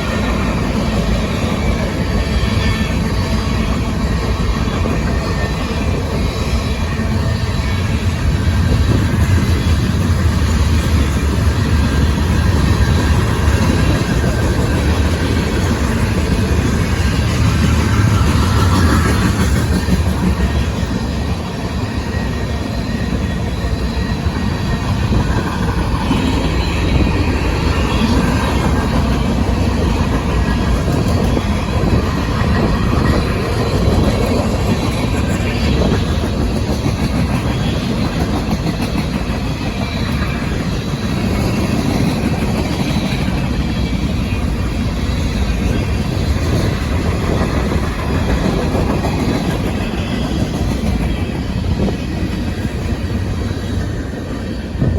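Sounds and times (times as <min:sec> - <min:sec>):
train cars rolling on track: 0:00.0 - 0:54.9.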